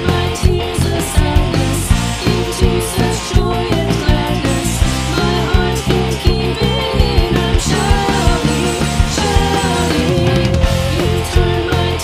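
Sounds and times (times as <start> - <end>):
guitars: 0.0 - 12.0
rock band playing: 0.0 - 12.0
steady drum beat: 0.0 - 12.0.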